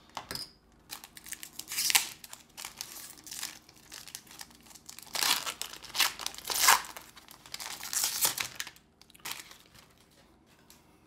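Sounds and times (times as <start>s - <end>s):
foil wrapper crinkling and tearing: 0.9s - 10.1s.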